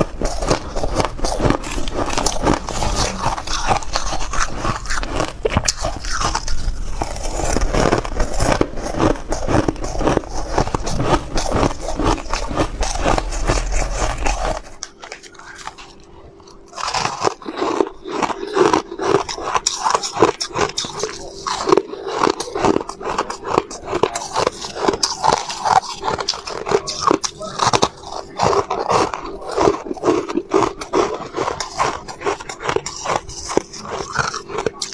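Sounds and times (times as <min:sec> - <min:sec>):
crunching ice being chewed: 0:00.0 - 0:34.9
faint steady hum: 0:00.0 - 0:34.9.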